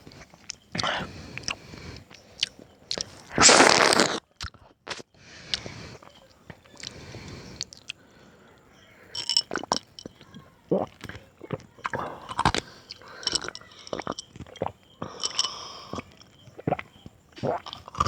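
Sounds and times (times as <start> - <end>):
mouth smacks and clicks: 0.0 - 8.0, 9.2 - 18.0
wet biting and chewing: 0.1 - 8.0, 9.2 - 18.0.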